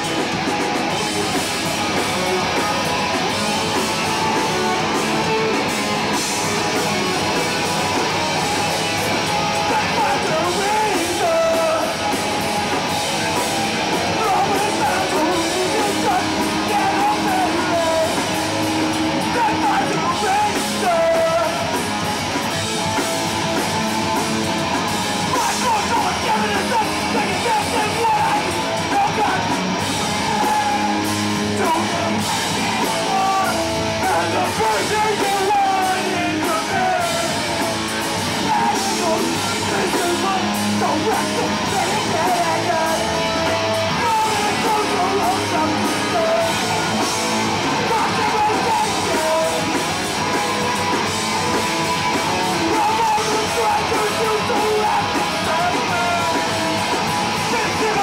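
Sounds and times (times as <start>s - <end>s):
punk band playing live: 0.0s - 58.0s.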